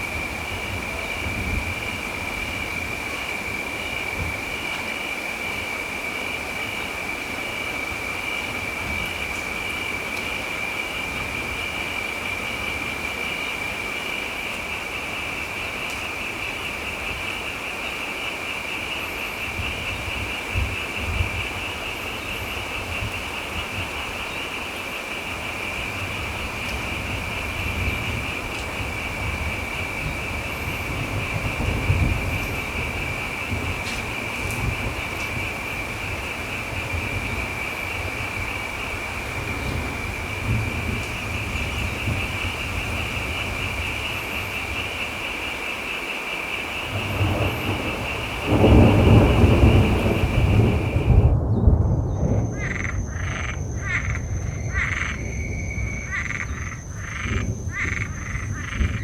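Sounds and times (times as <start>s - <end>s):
distant thunder rumbles: 0.0s - 17.5s, 19.2s - 59.0s
steady rain: 0.0s - 55.2s.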